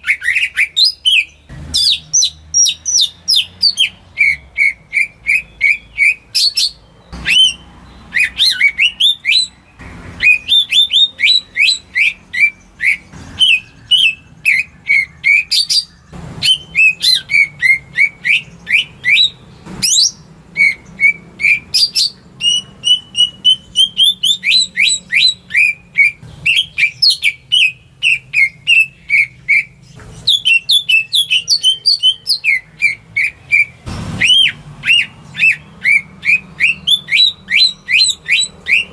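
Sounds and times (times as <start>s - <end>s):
bird chirping and whistling: 0.0s - 38.9s.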